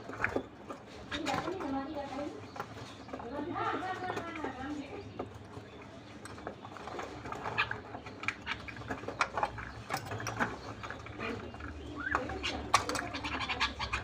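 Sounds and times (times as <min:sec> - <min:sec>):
bird clicking and chirping: 0:00.0 - 0:14.0.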